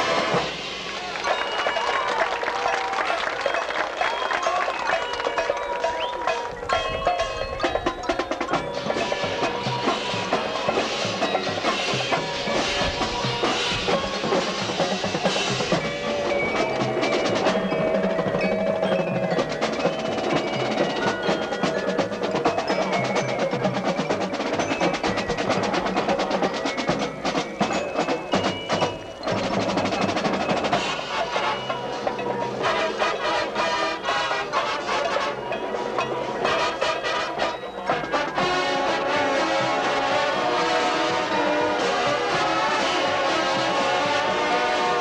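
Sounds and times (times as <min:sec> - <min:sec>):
snare and tenor drums: 0:00.0 - 0:02.4, 0:07.6 - 0:35.4, 0:36.4 - 0:45.0
bells and xylophone: 0:00.0 - 0:45.0.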